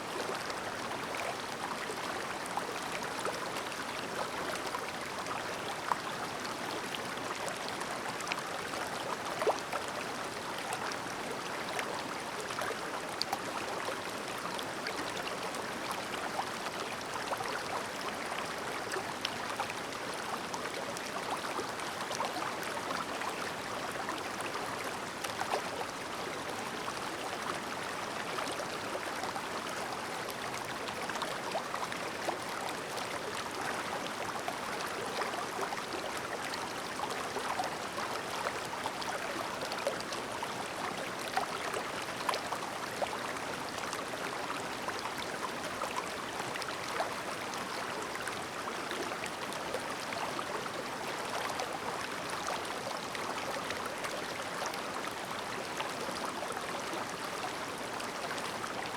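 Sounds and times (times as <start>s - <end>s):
mountain stream babbling: 0.0s - 58.9s.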